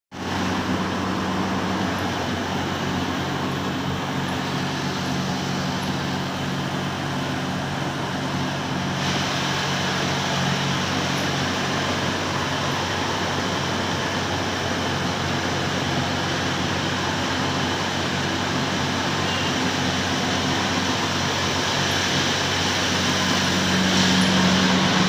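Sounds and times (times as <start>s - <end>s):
grinding machines rushing: 0.2s - 25.0s.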